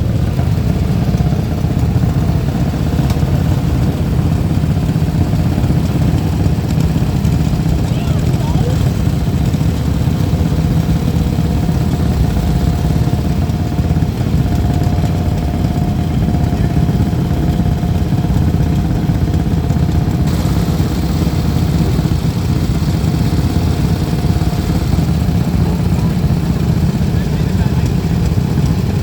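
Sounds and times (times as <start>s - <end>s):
motorcycle engines idling: 0.0s - 29.0s.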